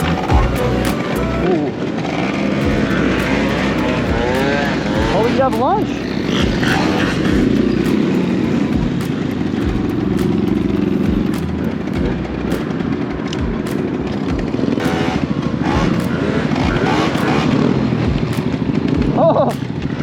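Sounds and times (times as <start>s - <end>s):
road and wind noise: 0.0s - 20.0s
scooter engine running: 0.0s - 20.0s.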